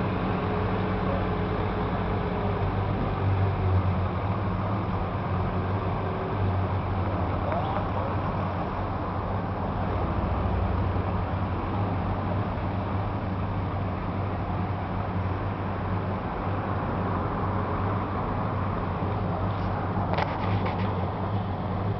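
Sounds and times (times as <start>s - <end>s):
street traffic: 0.0s - 21.9s.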